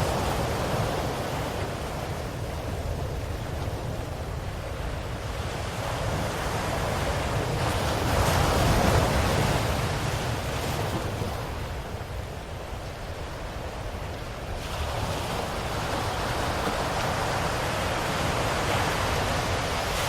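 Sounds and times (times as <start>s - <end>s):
ocean waves washing ashore: 0.0s - 20.0s.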